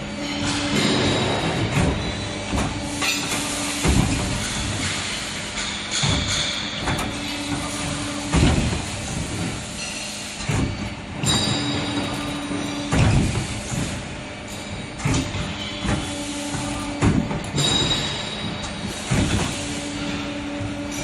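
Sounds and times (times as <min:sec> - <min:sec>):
machine knocks and clunks: 0:00.2 - 0:09.6, 0:10.4 - 0:21.0.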